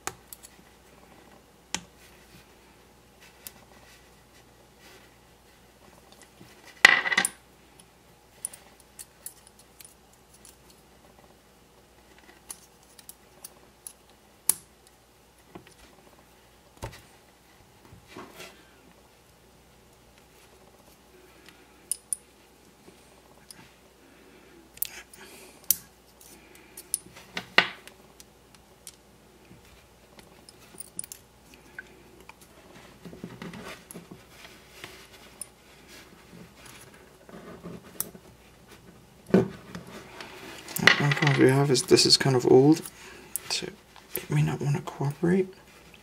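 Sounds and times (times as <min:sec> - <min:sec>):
soft rustling of parts: 0:00.0 - 0:46.0.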